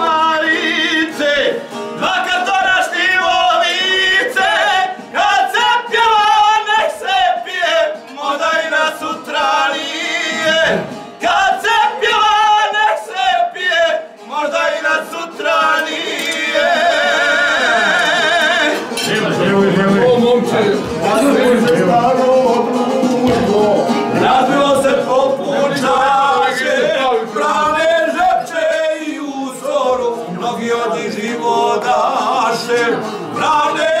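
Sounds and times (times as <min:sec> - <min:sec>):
men singing folk song: 0:00.0 - 0:34.0.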